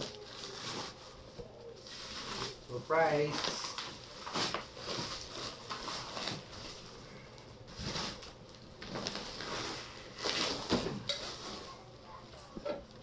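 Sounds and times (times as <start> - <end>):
plastic wrapping crinkling: 0.0 - 12.2.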